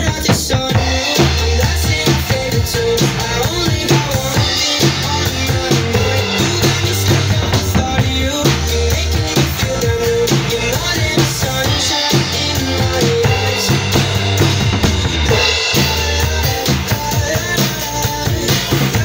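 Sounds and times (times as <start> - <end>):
drum kit playing: 0.0 - 19.0
recorded pop song: 0.0 - 19.0.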